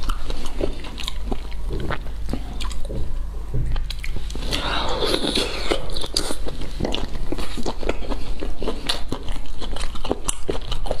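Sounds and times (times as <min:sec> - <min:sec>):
wet chewing and smacking: 0:00.0 - 0:11.0.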